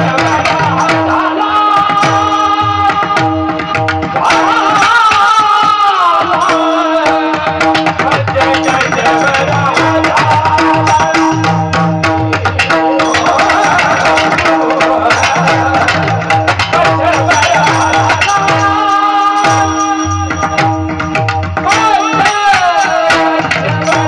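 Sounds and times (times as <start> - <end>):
man singing: 0.0 - 24.0
sharp percussion strikes: 0.0 - 24.0.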